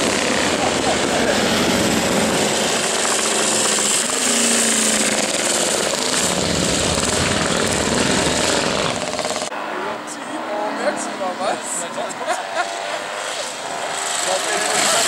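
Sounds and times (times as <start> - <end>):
motorcycle engines passing: 0.0 - 15.0.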